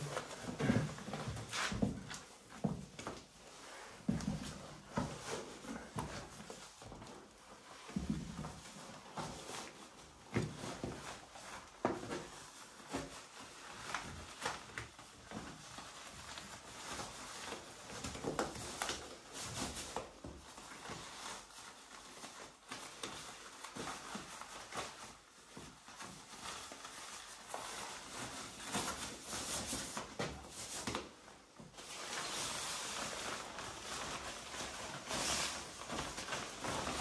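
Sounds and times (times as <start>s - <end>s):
plastic rain clothes rustling: 0.0s - 37.0s.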